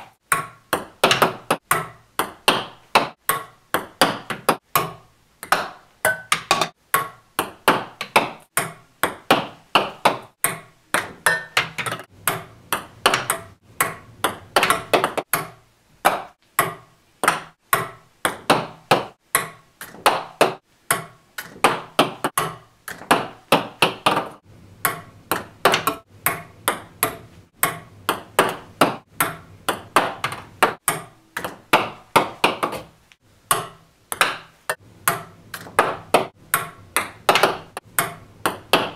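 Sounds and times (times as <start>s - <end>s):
ping-pong ball bouncing: 0.0s - 38.9s.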